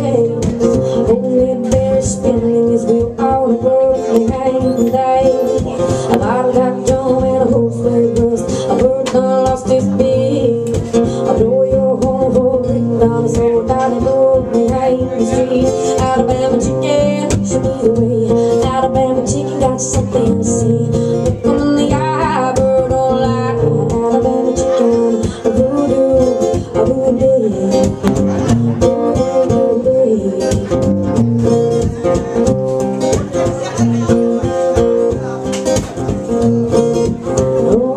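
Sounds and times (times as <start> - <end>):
woman singing: 0.0 - 31.2, 37.3 - 37.9
acoustic guitar: 0.0 - 37.9.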